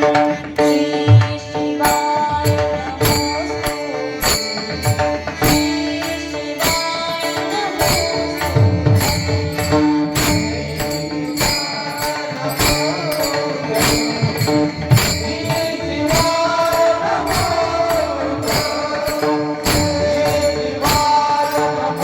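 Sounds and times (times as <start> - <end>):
devotional music: 0.0 - 22.0
jingling percussion: 0.0 - 22.0.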